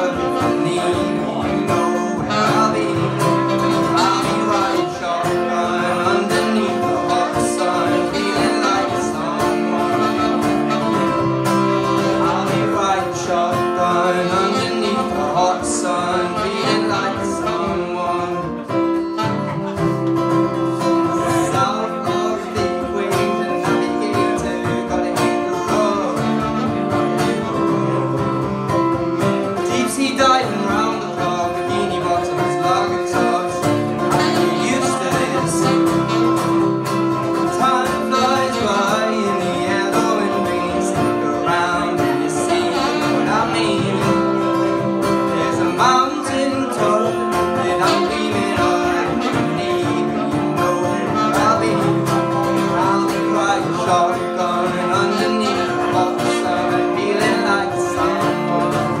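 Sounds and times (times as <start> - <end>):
live pop music with guitar: 0.0 - 59.0.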